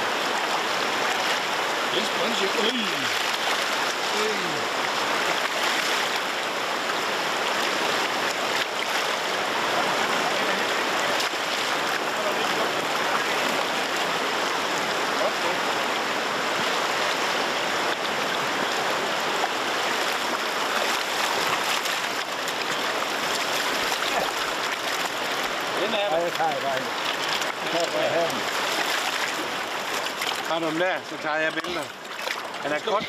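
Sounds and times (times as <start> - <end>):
river water rushing over stones: 0.0 - 33.0.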